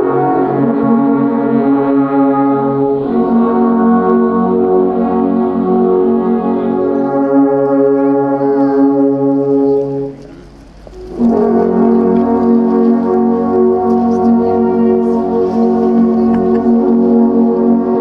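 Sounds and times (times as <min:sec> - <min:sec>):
alphorns playing held notes: 0:00.0 - 0:18.0.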